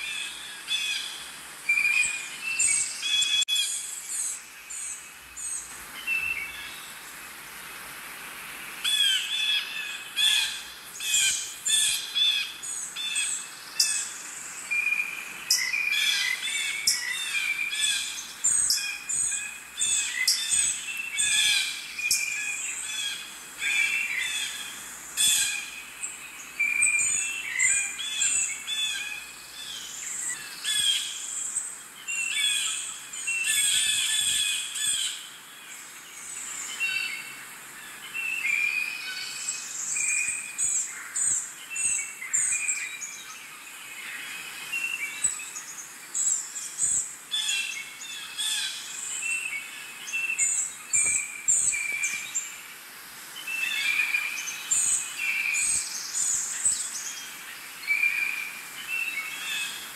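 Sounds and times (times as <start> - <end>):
birds chirping and calling: 0.0 - 7.0, 8.8 - 37.3, 37.9 - 52.6, 53.4 - 59.9.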